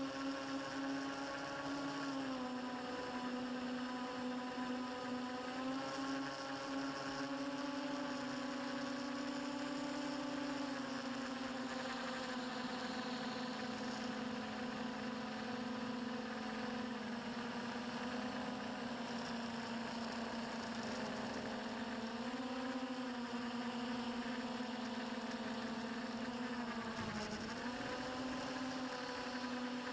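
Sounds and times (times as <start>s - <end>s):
drone propellers whirring: 0.0s - 29.9s.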